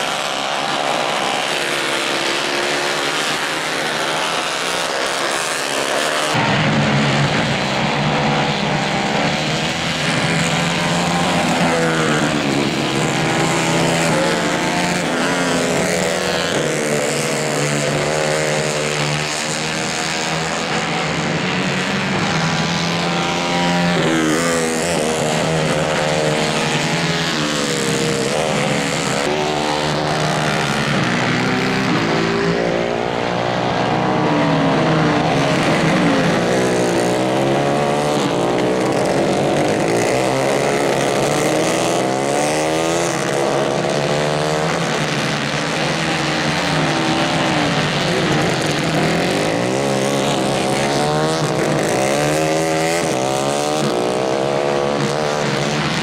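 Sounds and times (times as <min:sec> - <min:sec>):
kart engines revving: 0:00.0 - 0:56.0.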